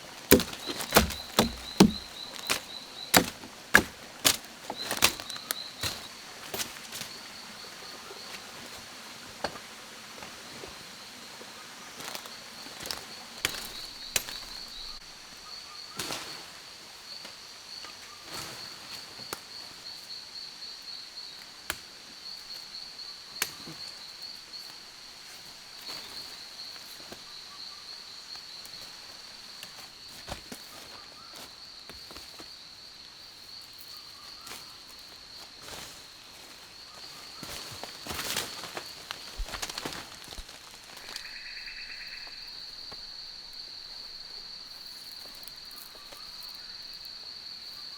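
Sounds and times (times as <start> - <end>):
insects chirring drone: 0.0 - 47.9.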